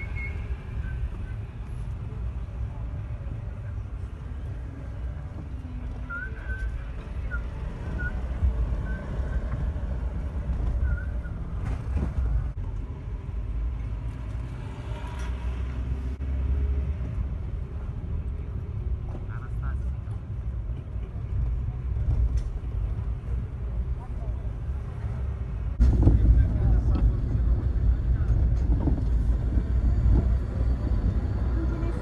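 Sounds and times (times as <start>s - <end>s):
car driving slowly: 0.0s - 32.0s.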